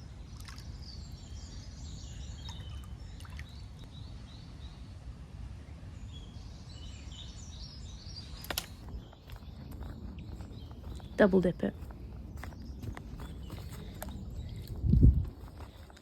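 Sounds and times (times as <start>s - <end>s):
small birds singing: 0.0s - 16.0s.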